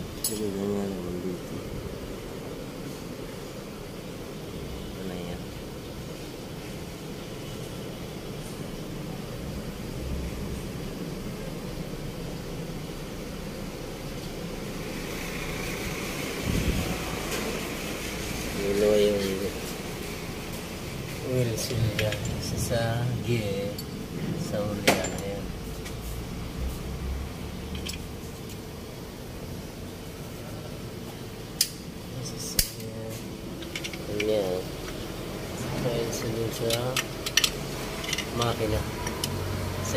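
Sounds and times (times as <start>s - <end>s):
low mechanical rumble: 0.0s - 39.9s
steady low hum: 0.0s - 39.9s.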